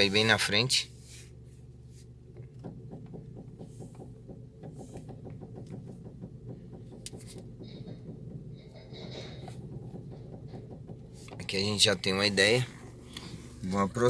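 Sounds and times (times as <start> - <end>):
car engine idling: 1.9 - 14.0
suspension knocking: 2.3 - 14.0.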